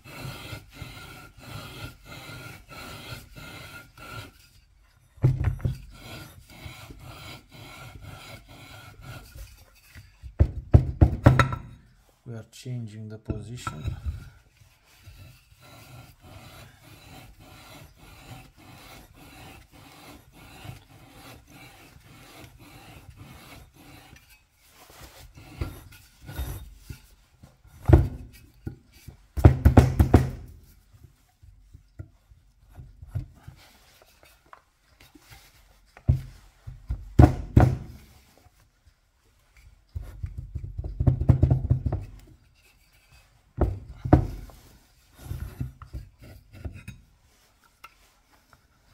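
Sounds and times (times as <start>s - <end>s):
gritty rasping of metal lapping: 0.0s - 10.3s, 13.5s - 29.4s, 30.4s - 36.7s, 42.0s - 48.9s.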